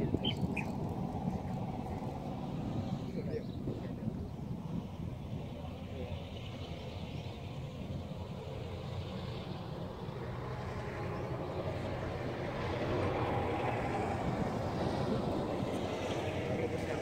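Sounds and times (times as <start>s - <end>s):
train approaching rumble: 0.0s - 17.0s.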